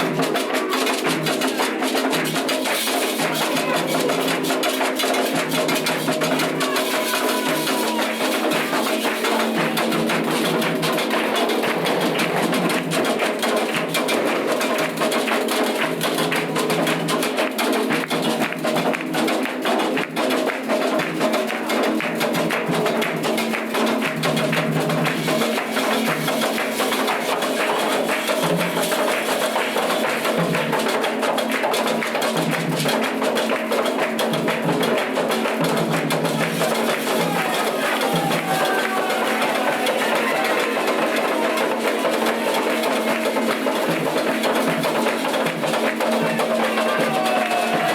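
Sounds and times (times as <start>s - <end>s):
fast drums and percussion: 0.0s - 47.9s.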